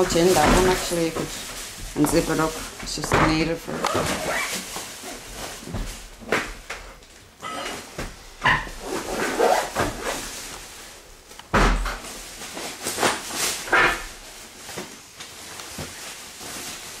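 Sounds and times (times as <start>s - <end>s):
bags rustling and scraping: 0.0s - 6.6s, 7.2s - 17.0s.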